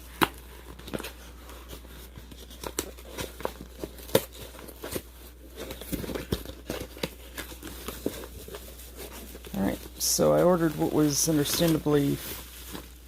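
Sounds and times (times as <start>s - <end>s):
packaging tearing and crinkling: 0.0s - 13.0s.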